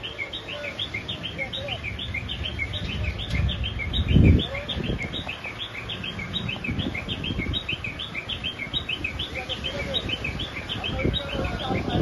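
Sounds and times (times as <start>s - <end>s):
bird chirping rapidly: 0.0s - 12.0s.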